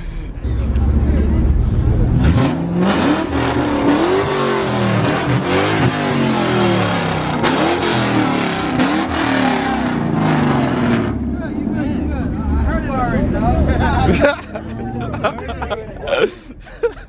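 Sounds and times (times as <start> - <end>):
car engine revving: 0.0 - 16.1.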